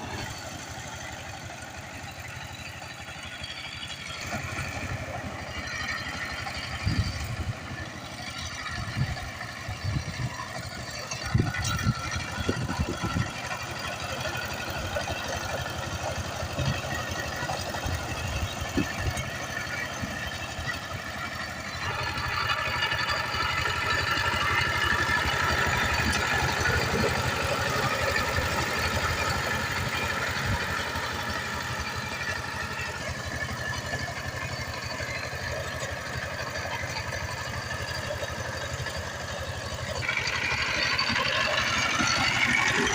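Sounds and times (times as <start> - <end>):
power tiller diesel engine running: 0.0 - 42.9.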